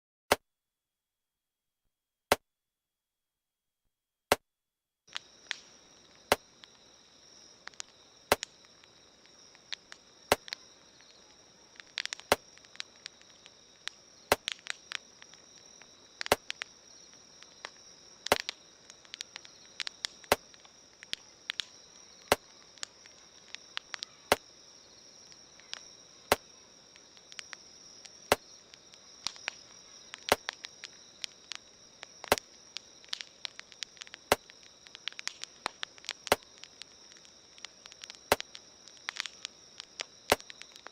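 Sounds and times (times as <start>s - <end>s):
campfire crackling and popping: 5.1s - 40.9s
crickets chirring: 5.1s - 40.9s.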